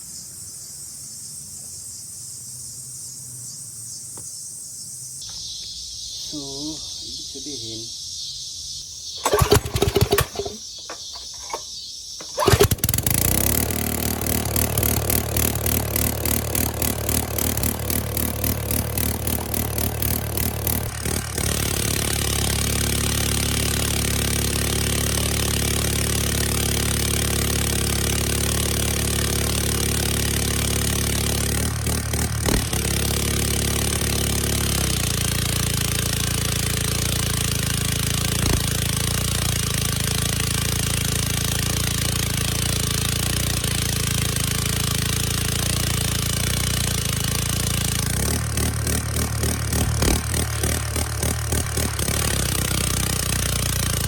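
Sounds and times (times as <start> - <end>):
pressure washer engine running: 9.2 - 54.0.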